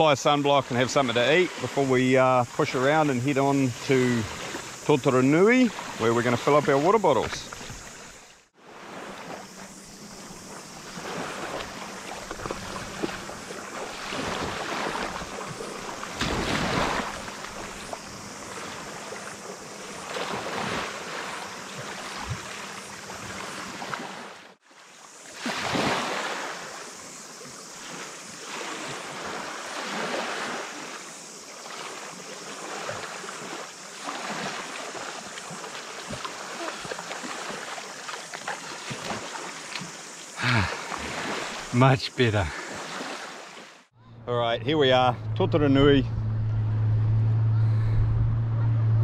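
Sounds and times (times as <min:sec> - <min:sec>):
sea water splashing: 0:00.0 - 0:43.9.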